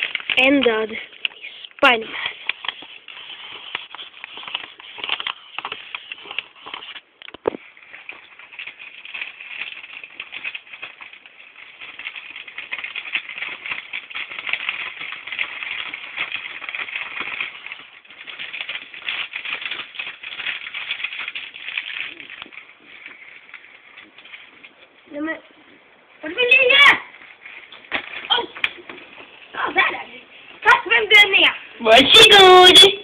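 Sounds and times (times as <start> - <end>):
thin sheet crinkling and rustling: 0.0 - 33.0.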